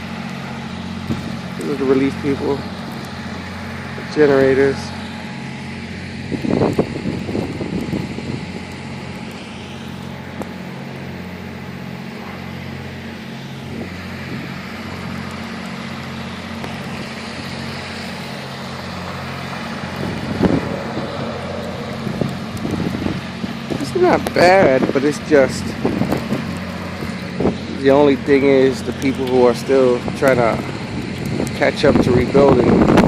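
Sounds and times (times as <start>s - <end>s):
generators humming: 0.0s - 33.0s
wind: 0.0s - 33.0s.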